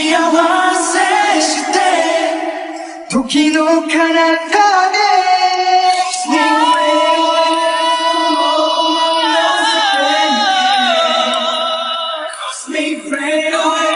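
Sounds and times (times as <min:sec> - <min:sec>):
pop song with singing voice: 0:00.0 - 0:13.9.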